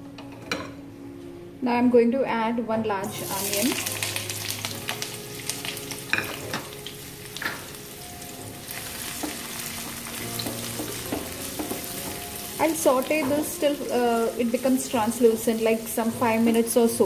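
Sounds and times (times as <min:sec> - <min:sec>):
onion sizzling in oil: 0:03.1 - 0:17.0.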